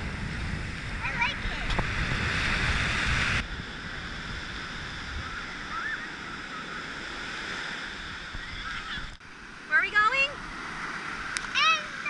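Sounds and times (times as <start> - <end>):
surf breaking on sandy beach: 0.0 - 12.0.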